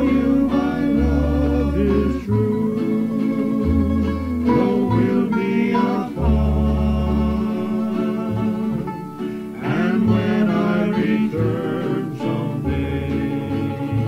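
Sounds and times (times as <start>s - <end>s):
person singing: 0.0s - 14.0s
plucked strings with bass: 0.0s - 14.0s.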